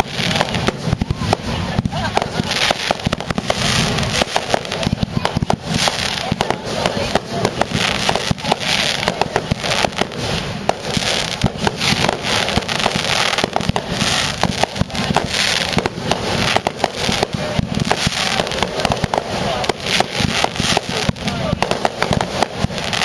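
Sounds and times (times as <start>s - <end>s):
firework shells bursting: 0.0s - 23.0s
fireworks crackling: 0.0s - 23.0s.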